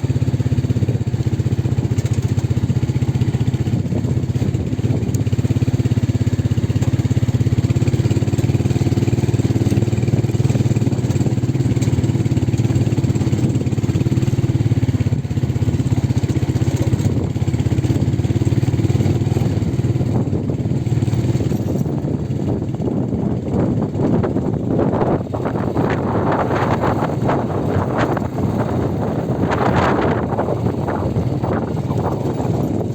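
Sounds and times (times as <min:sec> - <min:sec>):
vehicle engine running: 0:00.0 - 0:32.9.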